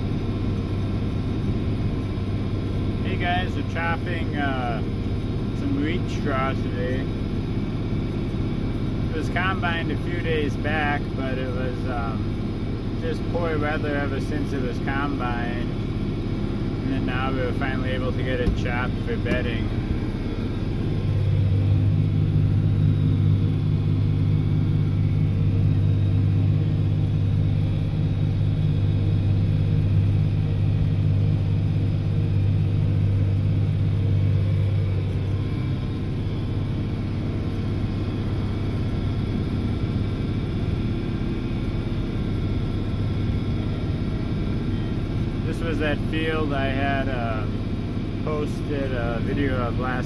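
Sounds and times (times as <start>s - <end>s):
tractor diesel engine drone: 0.0s - 50.0s.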